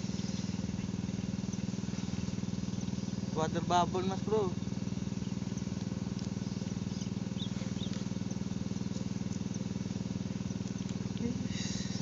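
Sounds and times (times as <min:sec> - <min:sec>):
low pulsing drone: 0:00.0 - 0:12.0.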